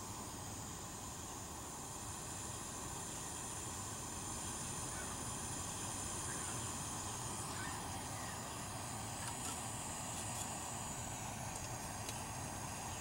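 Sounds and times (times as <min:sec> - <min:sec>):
gas stove hissing: 0:00.0 - 0:13.0.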